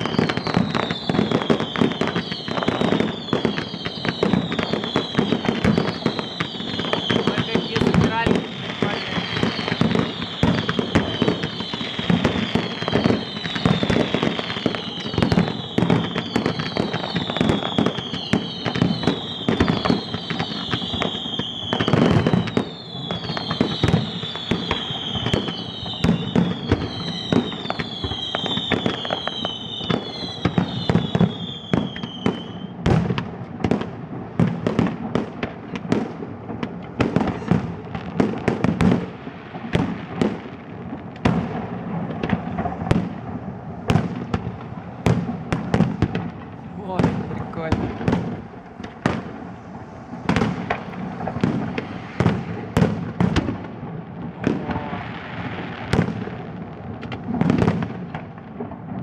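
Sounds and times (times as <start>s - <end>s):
falling firework whistles: 0.0s - 40.5s, 41.2s - 53.8s
fireworks bangs and crackling: 0.0s - 59.0s.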